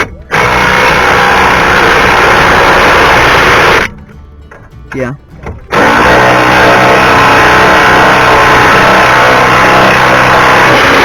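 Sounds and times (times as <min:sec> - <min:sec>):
power tool motor whirring: 0:00.0 - 0:03.9, 0:05.7 - 0:11.0.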